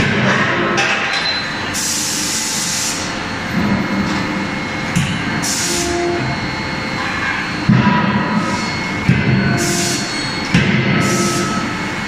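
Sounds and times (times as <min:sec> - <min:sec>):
forging hammer machine noise: 0:00.0 - 0:12.0.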